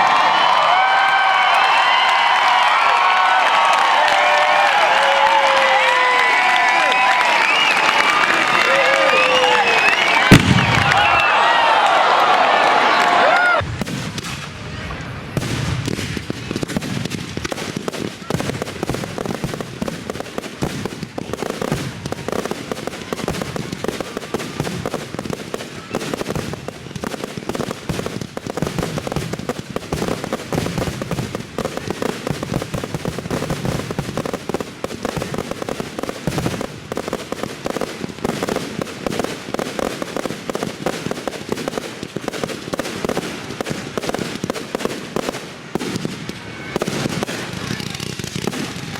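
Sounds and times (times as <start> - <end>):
fireworks bursts and crackle: 0.0 - 48.9.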